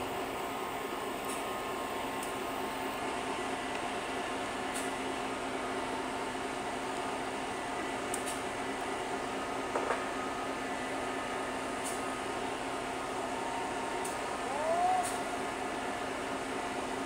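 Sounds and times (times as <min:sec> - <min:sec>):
locomotive engine humming: 0:00.0 - 0:17.0.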